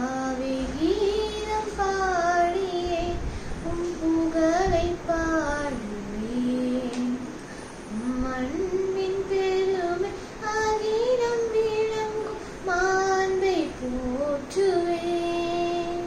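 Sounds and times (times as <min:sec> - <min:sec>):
girl singing a hymn: 0:00.0 - 0:16.0.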